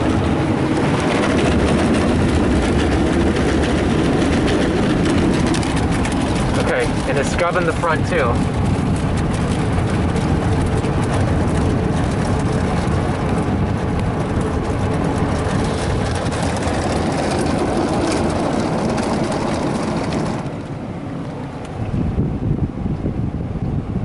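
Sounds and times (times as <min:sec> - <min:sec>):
car wash brushes scrubbing: 0:00.0 - 0:20.6.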